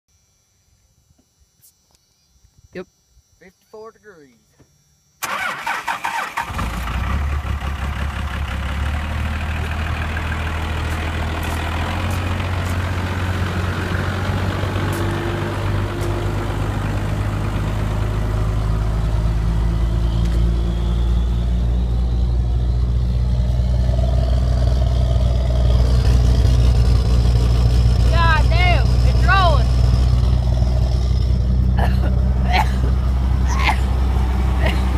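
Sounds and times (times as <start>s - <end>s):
diesel engine idling: 5.2s - 34.9s.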